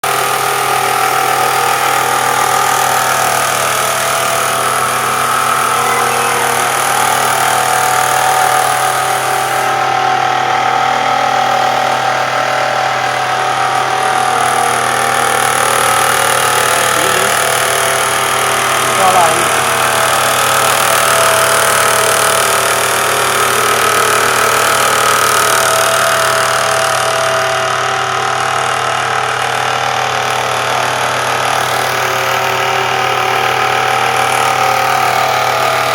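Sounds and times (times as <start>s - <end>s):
constant mechanical whine: 0.0s - 35.9s
engine hum: 0.0s - 35.9s.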